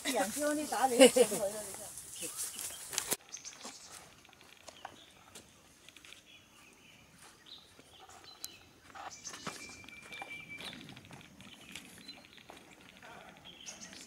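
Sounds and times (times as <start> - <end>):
faint bird chirps: 2.1 - 14.0.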